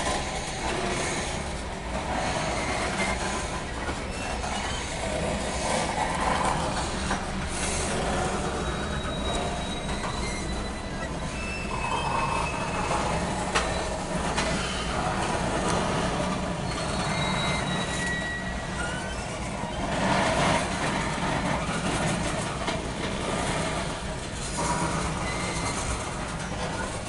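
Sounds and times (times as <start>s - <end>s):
train wheels rumbling on rails: 0.0s - 27.0s
high-pitched wheel squeals: 2.0s - 22.5s, 23.4s - 27.0s.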